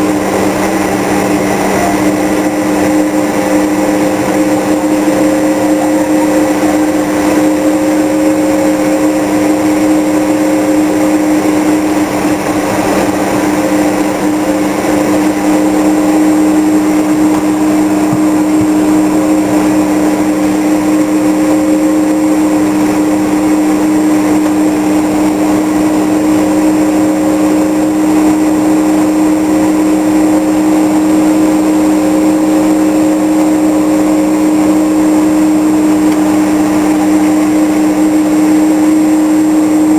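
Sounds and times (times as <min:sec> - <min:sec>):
jet engines humming: 0:00.0 - 0:39.9
steady tones: 0:00.0 - 0:39.9.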